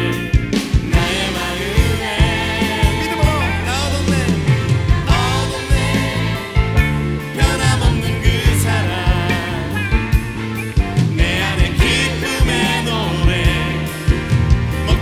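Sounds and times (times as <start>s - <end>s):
electric bass line: 0.0s - 15.0s
worship band song: 0.0s - 15.0s.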